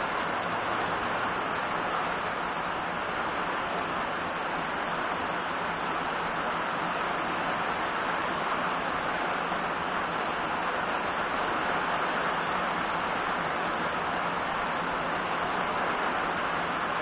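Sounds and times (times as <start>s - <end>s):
heavy rain on foliage: 0.0s - 17.0s.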